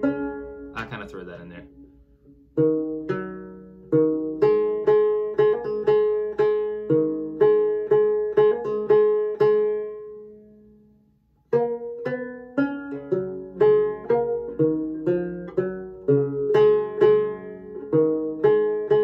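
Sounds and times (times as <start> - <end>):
banjo picking melody: 0.0 - 19.0.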